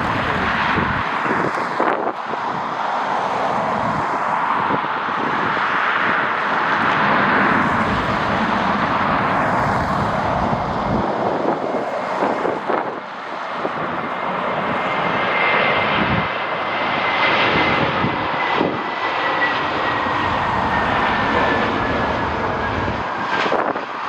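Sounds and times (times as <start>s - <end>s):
jet engines passing: 0.0s - 24.0s
wind rumbling on microphone: 0.0s - 24.0s.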